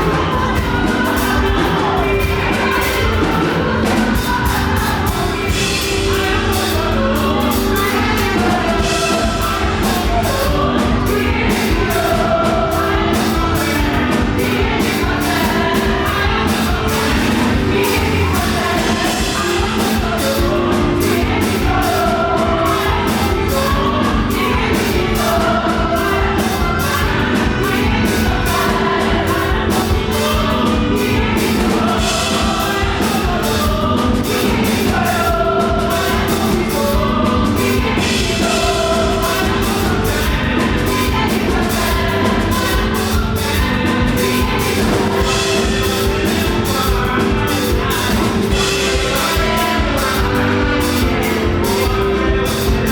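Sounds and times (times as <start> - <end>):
driving drum beat: 0.0 - 52.9
gospel band playing: 0.0 - 52.9
group of voices singing: 0.0 - 52.9.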